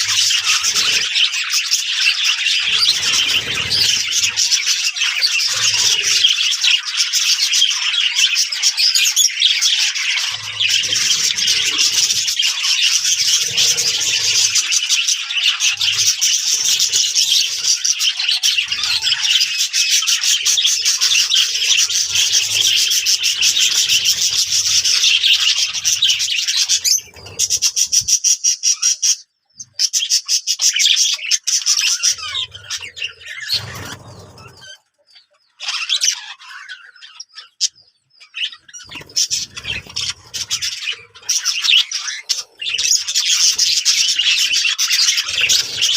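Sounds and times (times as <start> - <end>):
budgerigars chattering and chirping: 0.0 - 45.9.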